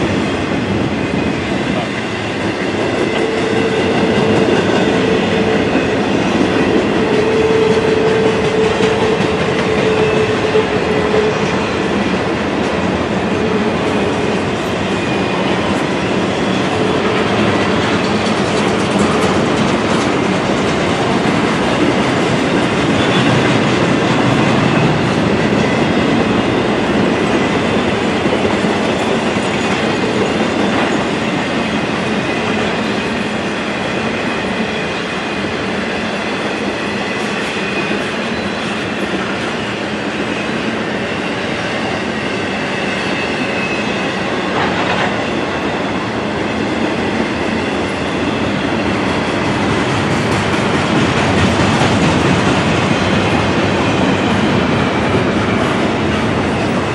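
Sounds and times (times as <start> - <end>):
train wheels rumbling on rail: 0.0 - 56.9
wheels clickety-clack: 1.5 - 39.7, 44.2 - 56.9.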